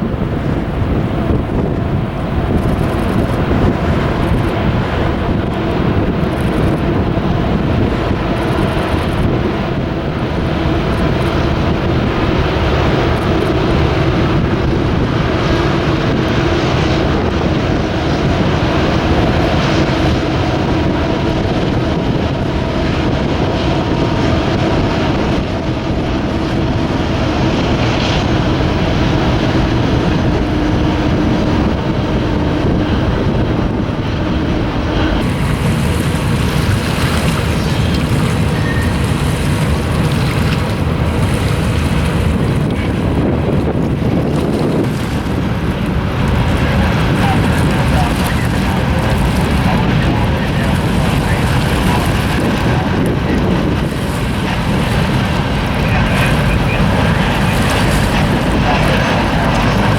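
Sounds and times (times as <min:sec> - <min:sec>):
constant hum: 0:00.0 - 0:59.9
freight train rumbling past: 0:00.0 - 0:59.9
wind buffeting microphone: 0:00.0 - 0:59.9.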